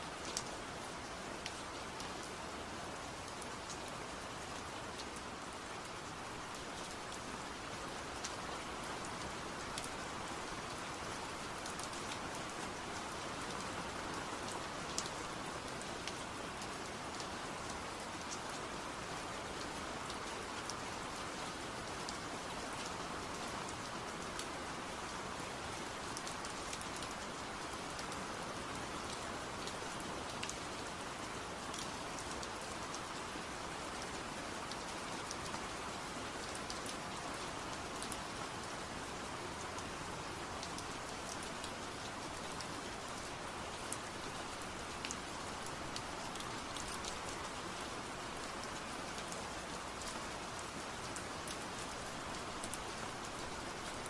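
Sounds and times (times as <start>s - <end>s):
raindrops ticking on a surface: 0.1s - 54.0s.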